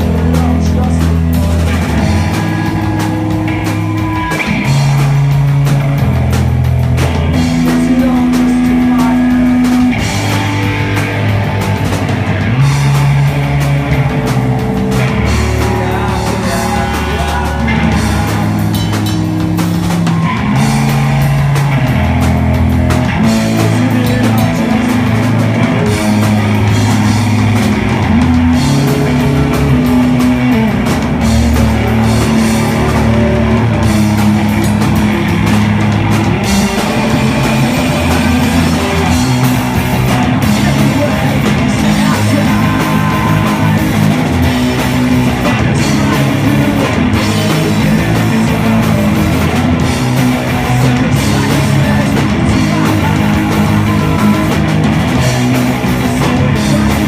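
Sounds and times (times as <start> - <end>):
rock band playing: 0.0 - 57.0
vocals: 0.0 - 57.0.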